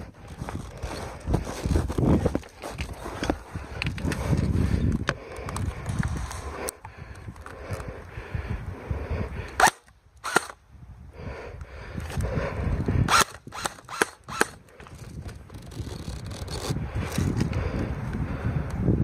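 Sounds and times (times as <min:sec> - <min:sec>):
rustling of movement: 0:00.0 - 0:08.8, 0:11.8 - 0:18.4.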